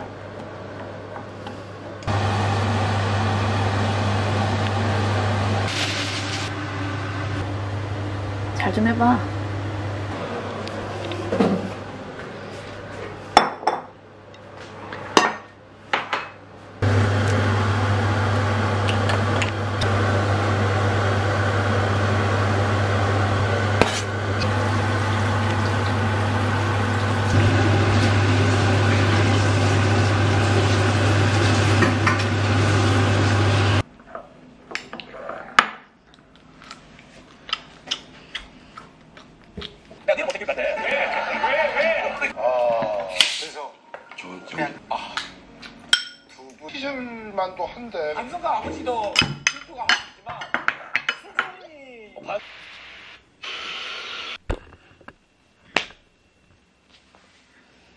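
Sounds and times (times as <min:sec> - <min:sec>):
kitchen appliance electric hum: 0:00.0 - 0:43.4, 0:52.2 - 0:57.9.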